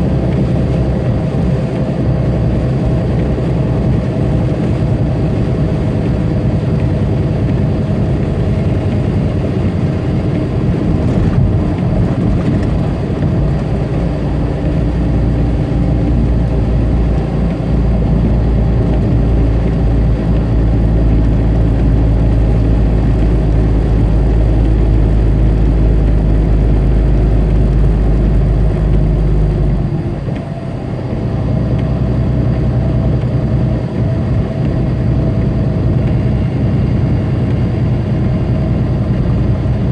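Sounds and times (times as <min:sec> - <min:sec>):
road noise: 0:00.0 - 0:39.9
truck diesel engine hum: 0:00.0 - 0:39.9.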